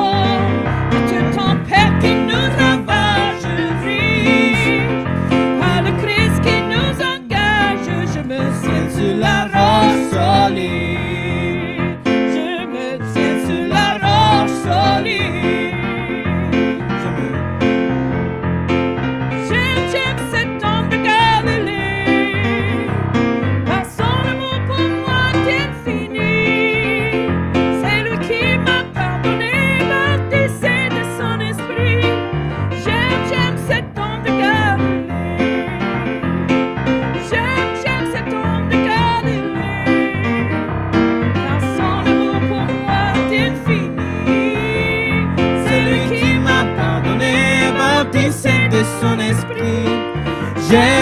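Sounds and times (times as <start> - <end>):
worship music on electric keyboard: 0.0 - 51.0.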